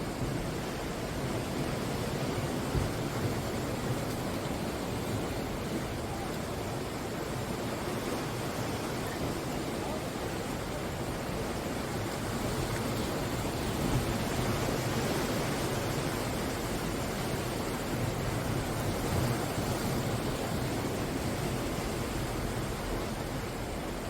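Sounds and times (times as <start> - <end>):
sea waves breaking on shore: 0.0 - 24.0.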